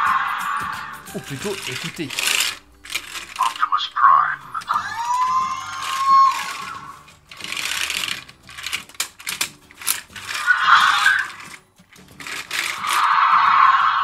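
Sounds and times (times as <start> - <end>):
toy mechanical whirring: 0.1 - 14.0.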